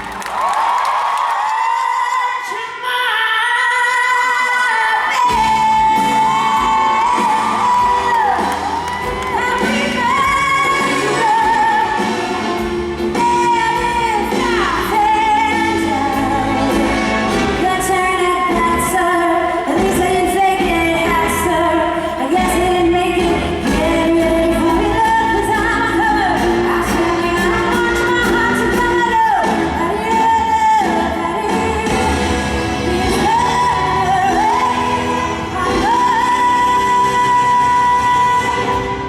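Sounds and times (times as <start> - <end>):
woman singing a show tune: 1.7 - 39.0
full band playing: 3.8 - 39.0.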